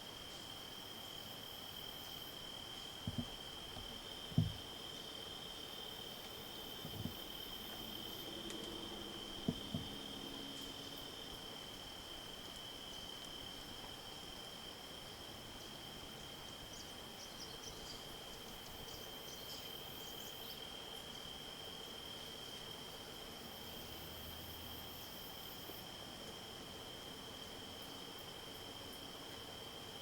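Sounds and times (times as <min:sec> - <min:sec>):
high insect trill: 0:00.0 - 0:26.0.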